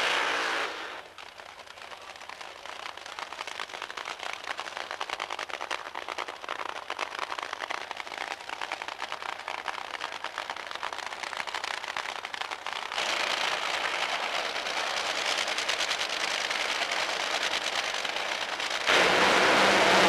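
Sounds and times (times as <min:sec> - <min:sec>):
dragster engine roaring and crackling: 0:00.0 - 0:20.0.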